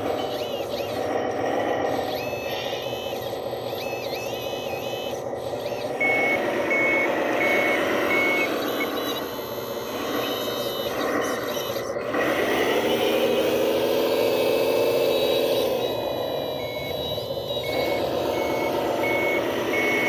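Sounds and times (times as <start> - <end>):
diesel engine running: 0.0 - 20.0
reverse alarm beeping: 0.0 - 20.0.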